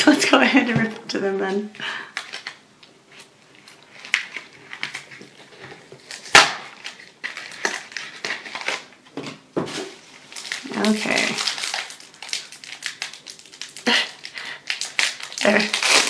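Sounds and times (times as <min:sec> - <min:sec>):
foil wrapper crinkling: 0:01.8 - 0:16.0.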